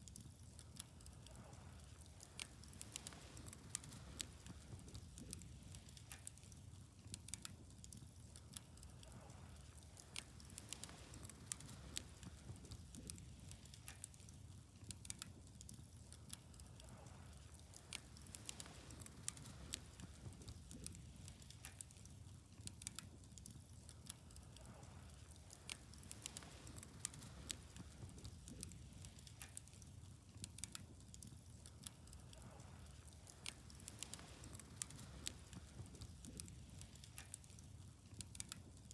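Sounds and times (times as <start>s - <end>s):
faint low rumble: 0.0s - 38.9s
wood fire crackling: 0.0s - 38.9s.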